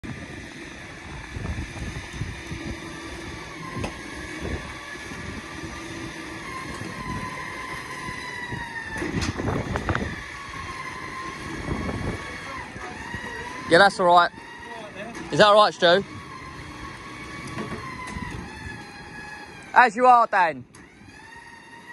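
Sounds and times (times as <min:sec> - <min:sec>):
motor running with whine: 0:00.0 - 0:21.9.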